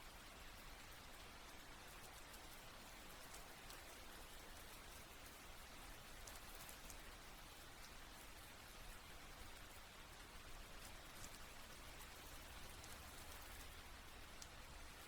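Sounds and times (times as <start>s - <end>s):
faint steady rainfall: 0.0s - 15.0s.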